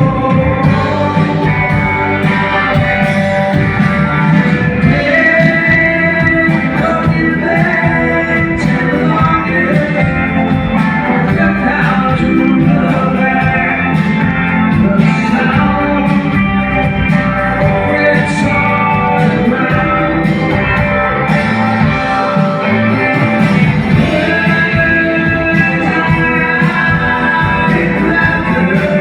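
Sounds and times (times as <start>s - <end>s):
electric guitars: 0.0s - 29.0s
person singing: 0.0s - 29.0s.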